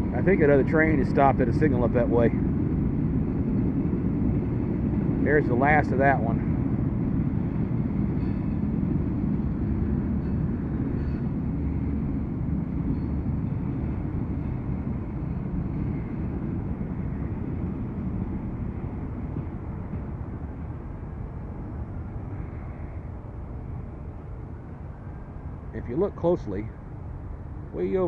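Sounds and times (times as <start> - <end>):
freight train cars rumbling: 0.0 - 28.0.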